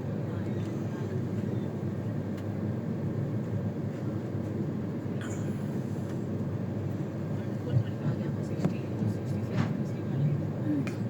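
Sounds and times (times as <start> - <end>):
train rumble from on board: 0.0 - 11.0.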